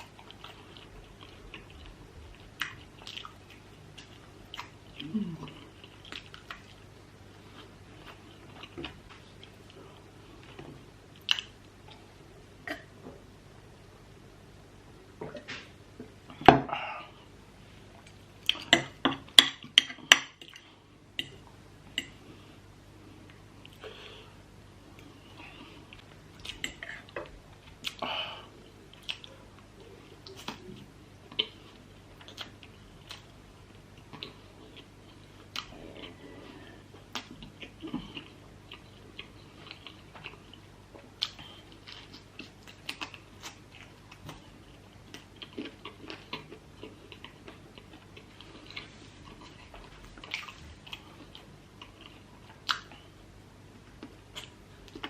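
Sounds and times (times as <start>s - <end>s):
person chewing food: 0.0s - 13.0s, 17.9s - 24.3s, 24.9s - 55.0s.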